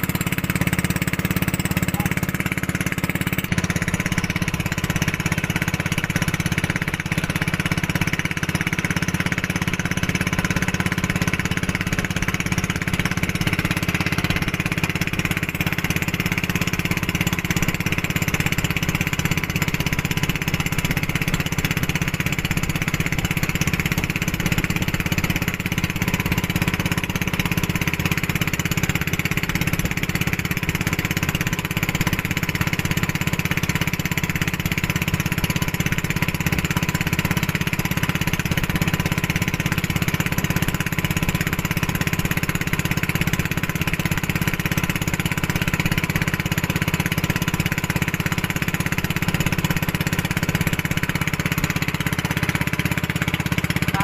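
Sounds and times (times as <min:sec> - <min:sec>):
boat motor running: 0:00.0 - 0:54.0
wind: 0:00.0 - 0:54.0.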